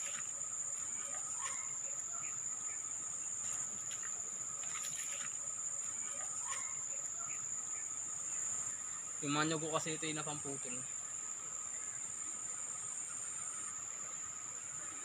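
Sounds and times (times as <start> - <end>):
insects droning: 0.0 - 15.0
short insect chirps: 0.0 - 15.0.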